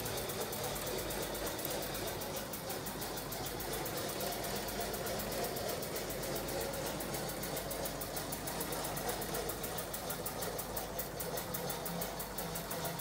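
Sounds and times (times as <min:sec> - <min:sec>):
steam engine beating: 0:00.0 - 0:13.0.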